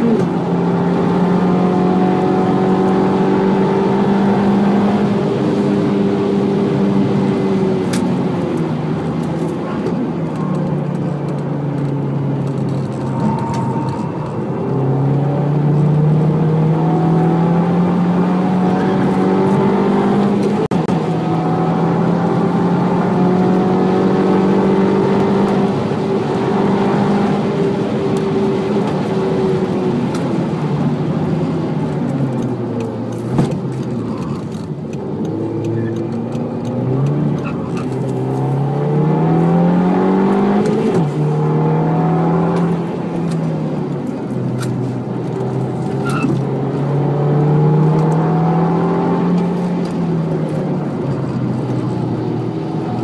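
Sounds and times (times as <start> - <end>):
turbocharged car engine revving: 0.0 - 53.0.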